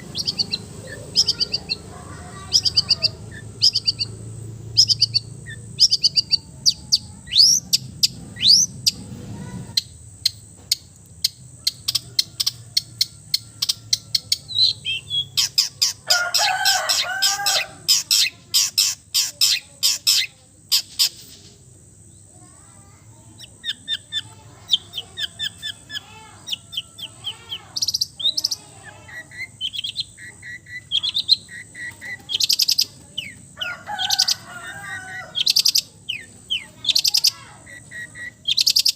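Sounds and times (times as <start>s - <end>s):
bird singing mimicking song: 0.0s - 21.4s, 22.1s - 38.9s.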